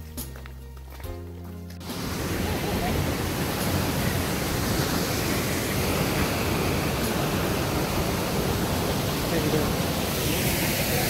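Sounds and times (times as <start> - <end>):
waterfall rushing: 1.8 - 11.0.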